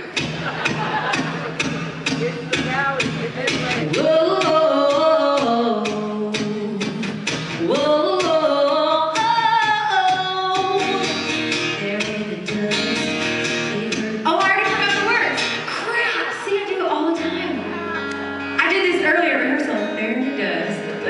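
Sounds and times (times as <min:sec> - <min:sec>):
strummed acoustic guitar: 0:00.0 - 0:21.0
woman singing into microphone: 0:03.7 - 0:21.0.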